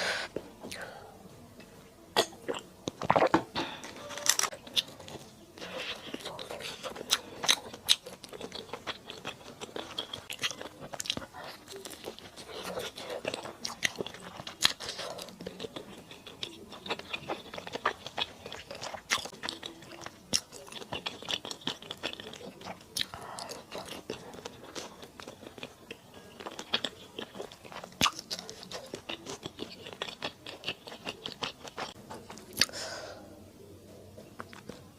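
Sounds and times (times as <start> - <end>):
close chewing and crunching: 2.2 - 32.9, 34.2 - 34.9.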